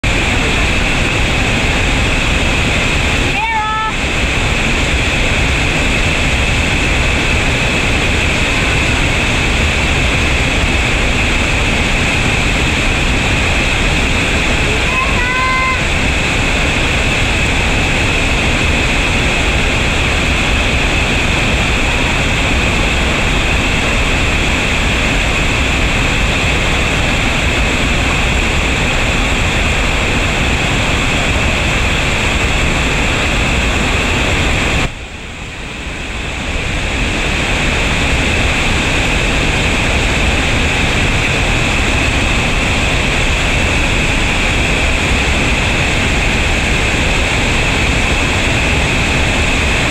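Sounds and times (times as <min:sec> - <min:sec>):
waterfall and rapids roaring: 0:00.0 - 0:49.9.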